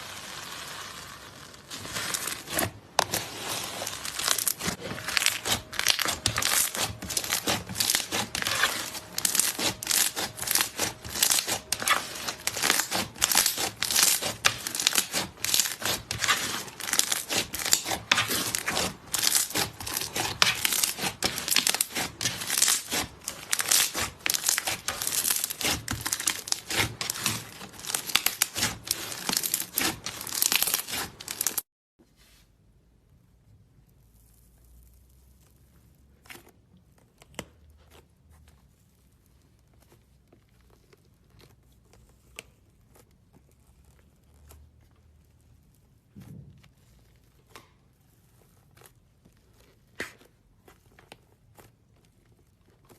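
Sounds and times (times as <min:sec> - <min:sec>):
slime crackling and crinkling: 0:00.0 - 0:31.7, 0:33.6 - 0:52.9.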